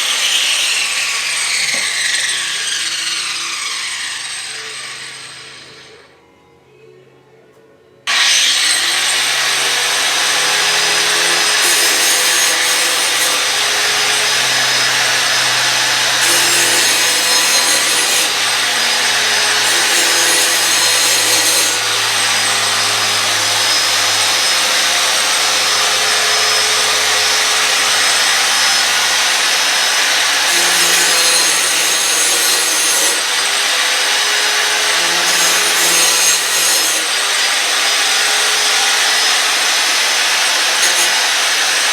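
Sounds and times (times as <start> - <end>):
power grinder on steel blade: 0.0 - 6.1, 8.1 - 41.9.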